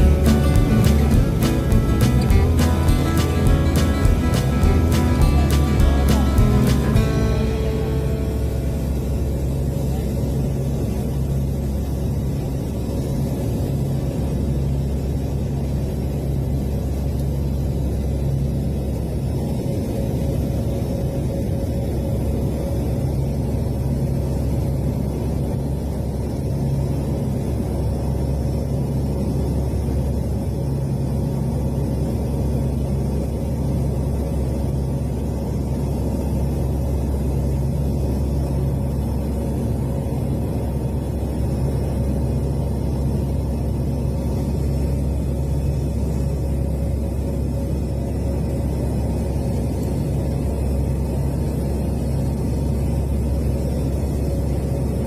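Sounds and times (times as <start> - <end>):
aircraft engine drone in cabin: 0.0 - 55.0.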